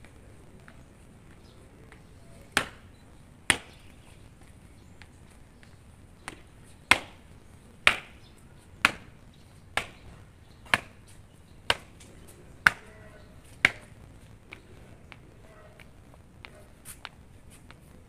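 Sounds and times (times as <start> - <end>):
hard-soled shoes marching on pavement: 0.0 - 18.0.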